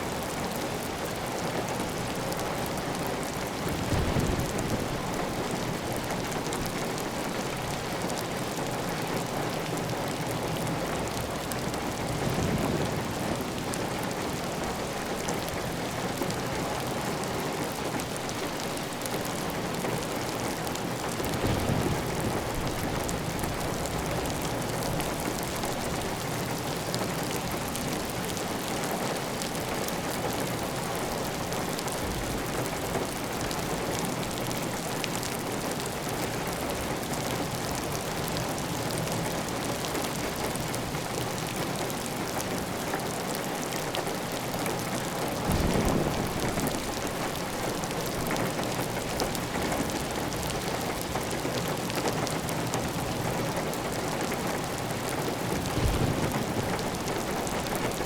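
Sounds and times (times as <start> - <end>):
heavy rain on a tile roof: 0.0 - 58.0.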